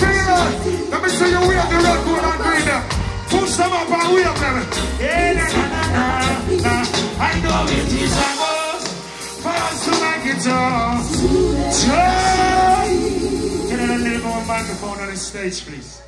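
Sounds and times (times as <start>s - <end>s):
man singing reggae: 0.0s - 16.0s
reggae band playing: 0.0s - 16.0s.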